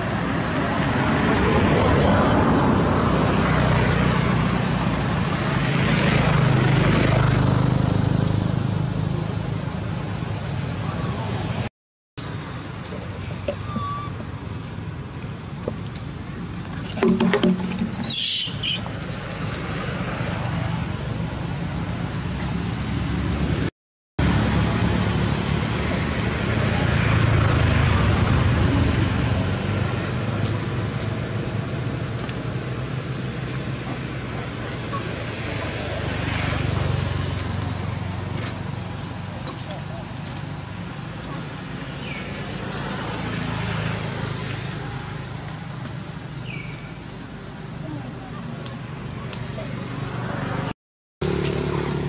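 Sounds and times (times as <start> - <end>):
engine running with low hum: 0.0 - 52.0
low rumbling outdoor noise: 0.0 - 52.0.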